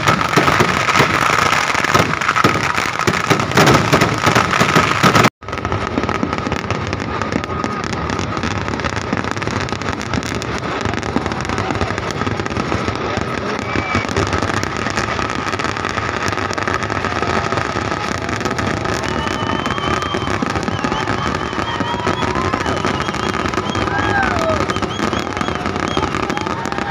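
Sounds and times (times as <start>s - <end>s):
fireworks bangs and crackling: 0.0s - 26.9s.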